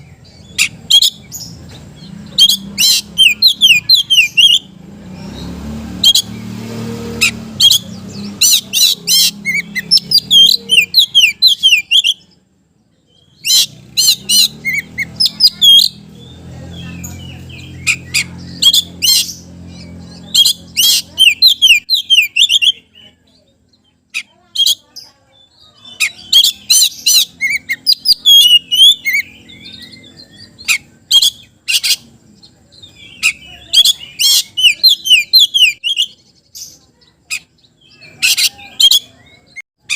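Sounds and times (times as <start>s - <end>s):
bird singing chirps and whistles: 0.0s - 12.4s, 13.0s - 23.4s, 25.4s - 32.1s, 32.7s - 36.8s, 37.6s - 39.9s.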